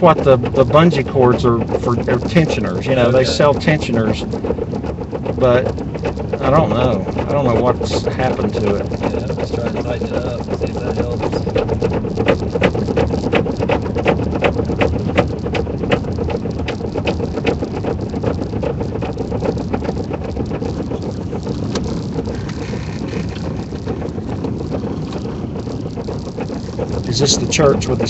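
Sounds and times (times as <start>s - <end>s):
car engine: 0.0s - 28.0s
tire chain slapping wheel well: 0.0s - 28.0s
tires on snow: 0.0s - 28.0s.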